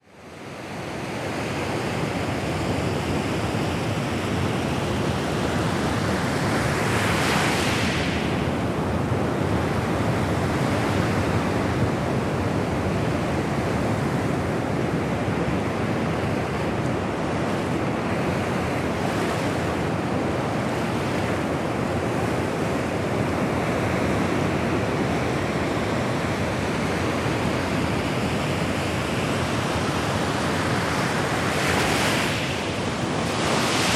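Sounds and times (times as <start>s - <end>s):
ocean waves lapping on shore: 0.1s - 33.9s.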